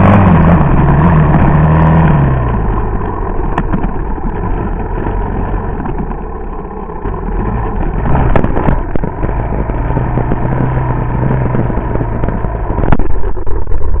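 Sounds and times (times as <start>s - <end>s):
rattles and knocks from rough ground: 0.0s - 14.0s
small off-road engine running: 0.0s - 14.0s.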